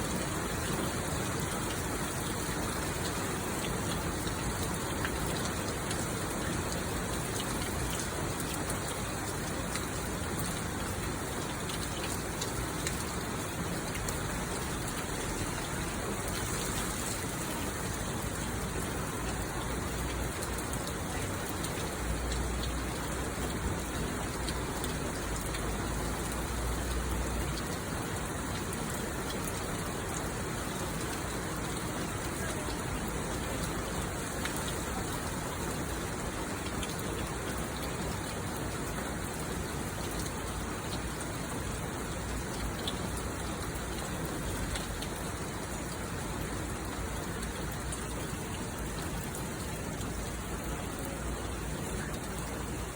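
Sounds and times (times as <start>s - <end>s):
heavy rain pattering: 0.0s - 52.9s.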